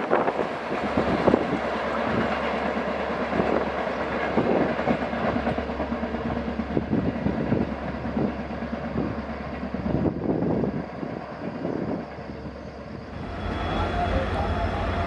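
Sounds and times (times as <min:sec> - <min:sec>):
train coaches rumbling: 0:00.0 - 0:15.0.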